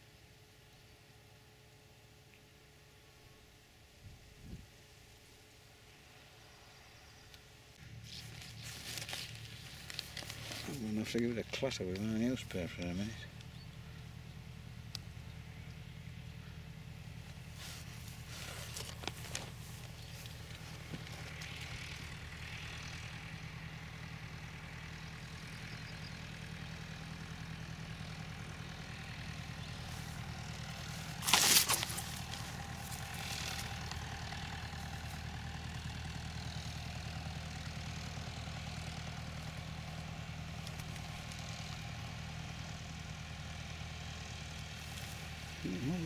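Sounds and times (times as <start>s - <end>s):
steady low engine hum: 0.0s - 46.0s.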